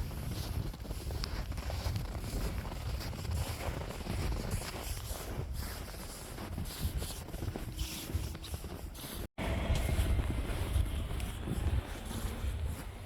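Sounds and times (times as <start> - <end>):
footsteps crunching through snow: 0.0 - 13.0
wind buffeting microphone: 0.0 - 13.0.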